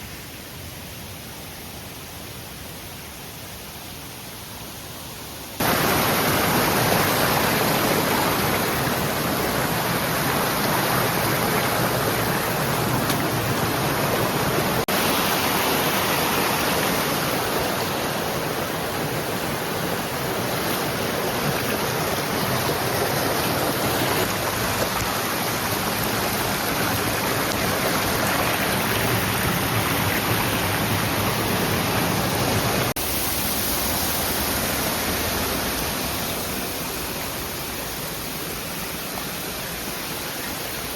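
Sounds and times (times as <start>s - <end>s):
mountain stream flowing: 3.6s - 40.9s.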